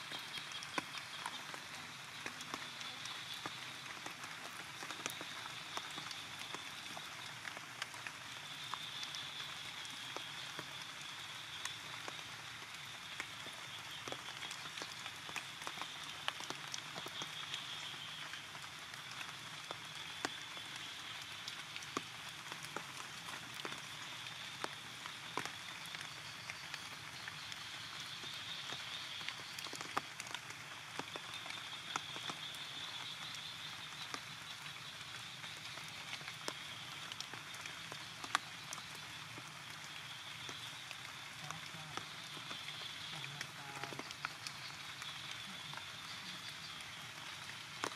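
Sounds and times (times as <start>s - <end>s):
rain drops ticking: 0.0s - 47.9s.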